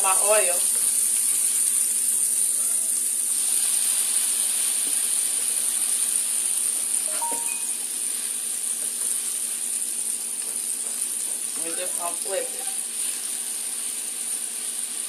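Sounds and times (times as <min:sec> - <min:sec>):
potatoes sizzling in oil: 0:00.0 - 0:15.0.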